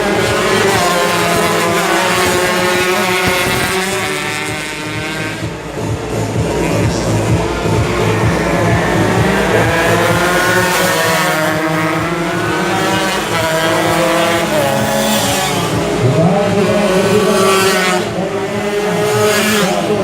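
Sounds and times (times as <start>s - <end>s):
two-stroke motorcycle engines revving: 0.0s - 20.0s.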